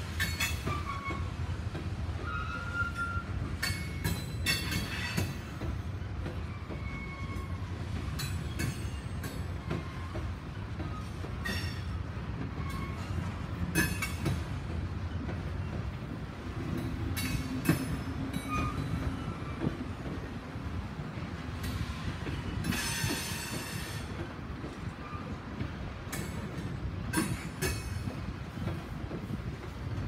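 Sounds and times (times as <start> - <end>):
freight train rumbling past: 0.0 - 30.0
wheels squealing against rail: 0.1 - 16.1, 16.7 - 20.3, 21.6 - 29.4.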